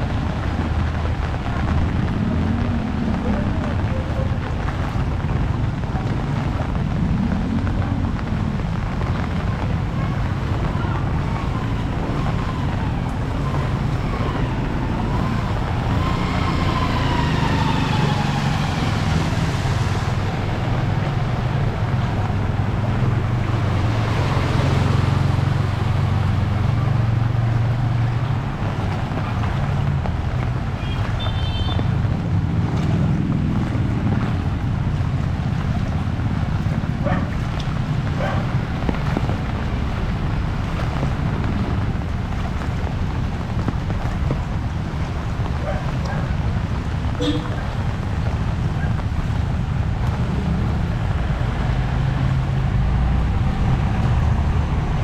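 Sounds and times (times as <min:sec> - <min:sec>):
heavy rain and wind: 0:00.0 - 0:55.0
rumble of motor vehicles: 0:00.0 - 0:55.0.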